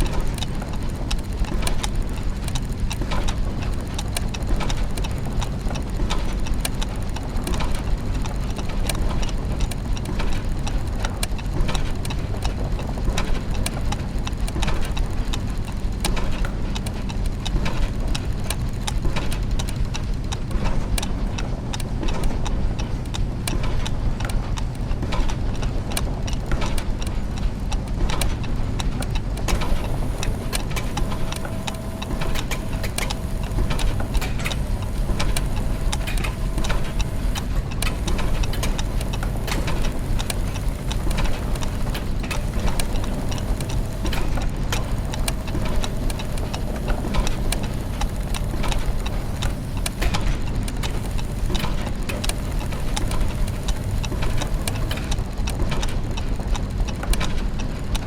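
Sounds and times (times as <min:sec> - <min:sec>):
clockwork clicks and ticks: 0:00.0 - 0:58.0
low mechanical hum: 0:00.0 - 0:58.0.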